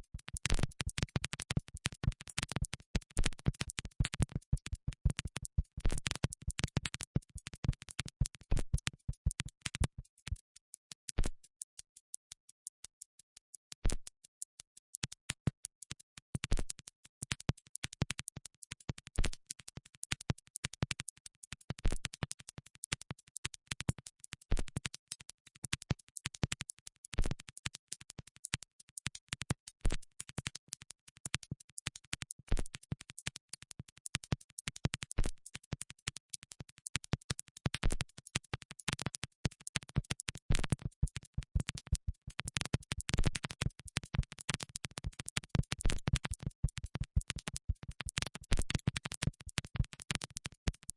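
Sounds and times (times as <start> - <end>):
sharp clicks and crackles: 0.2 - 50.9.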